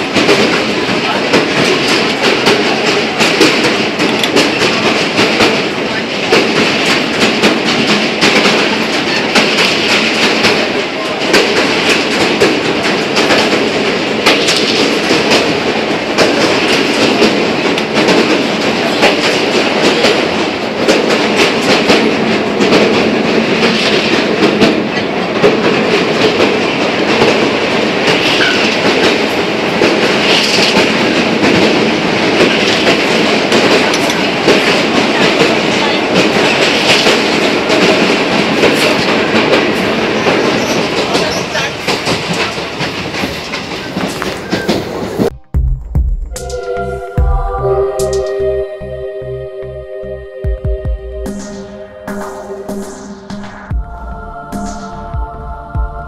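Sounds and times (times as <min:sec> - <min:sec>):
wheels clicking over rail joints: 0:00.0 - 0:45.3
train rumble: 0:00.0 - 0:56.0.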